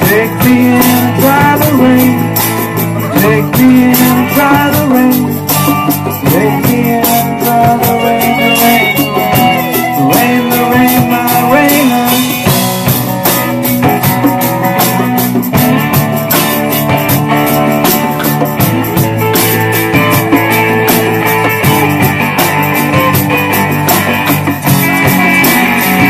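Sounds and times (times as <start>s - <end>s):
congas: 0.0s - 26.0s
drum kit beat: 0.0s - 26.0s
electric guitars: 0.0s - 26.0s.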